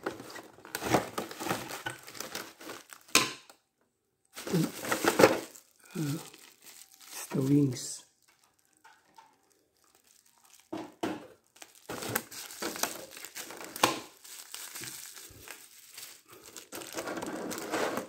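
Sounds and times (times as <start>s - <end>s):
plastic packaging crinkling: 0.0s - 3.2s, 4.3s - 18.0s.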